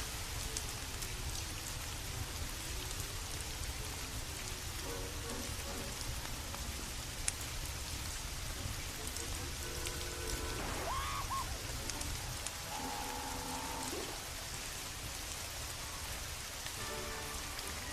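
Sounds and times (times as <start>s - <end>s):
rain falling: 0.0s - 17.9s.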